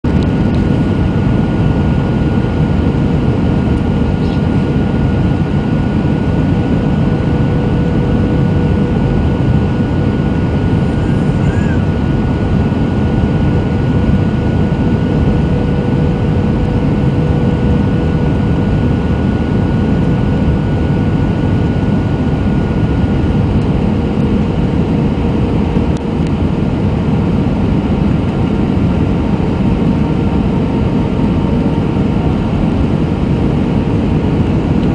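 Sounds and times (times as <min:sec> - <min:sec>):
aircraft cabin engine rush: 0:00.0 - 0:34.9
faint steady whine: 0:00.1 - 0:34.9.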